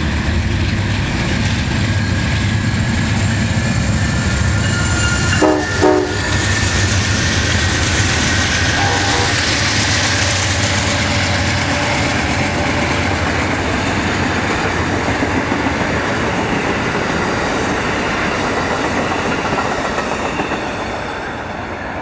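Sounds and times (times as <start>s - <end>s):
diesel locomotive rumble: 0.0s - 21.4s
train cars rolling on steel wheels: 0.0s - 22.0s.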